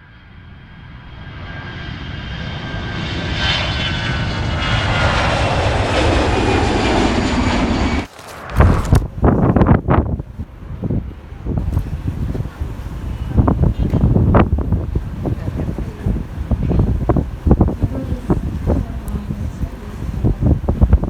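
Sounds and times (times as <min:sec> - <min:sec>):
engine drone: 0:00.0 - 0:21.0
wind buffeting microphone: 0:00.0 - 0:21.0.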